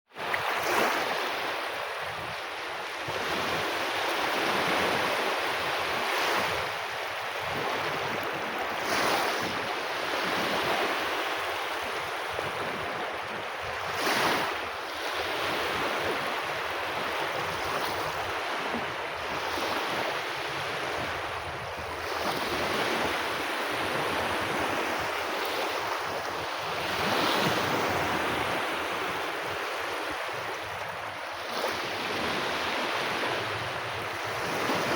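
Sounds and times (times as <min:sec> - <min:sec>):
waves breaking on beach: 0:00.1 - 0:34.9
wind on microphone: 0:00.2 - 0:34.9.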